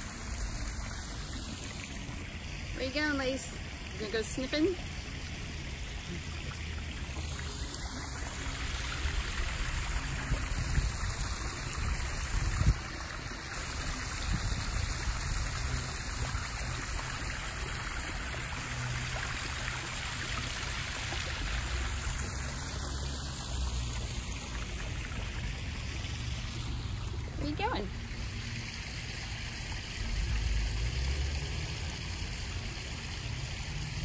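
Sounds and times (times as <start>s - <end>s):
water splashing and trickling: 0.0s - 34.0s.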